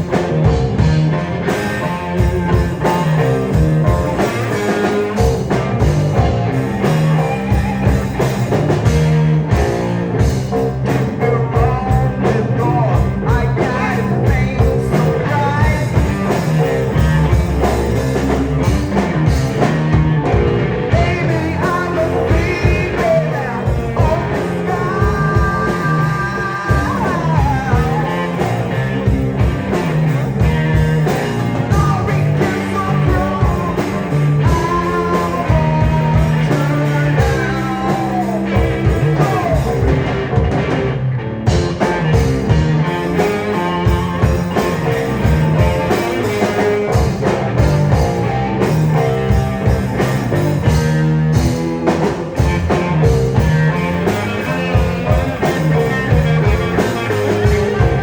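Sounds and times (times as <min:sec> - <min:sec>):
electric guitar: 0:00.0 - 0:58.0
rock band playing: 0:00.0 - 0:58.0.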